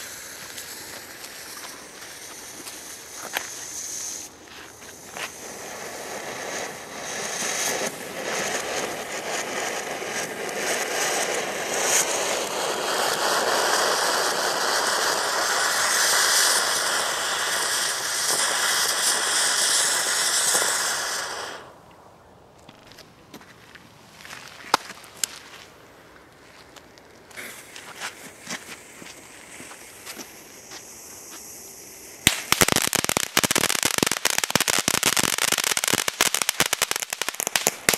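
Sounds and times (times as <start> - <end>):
firework fountain spraying hiss: 0.0 - 22.1, 24.4 - 37.9.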